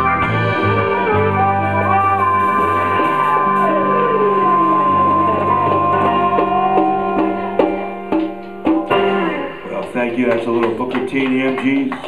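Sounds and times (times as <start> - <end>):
blues band playing: 0.0 - 11.6.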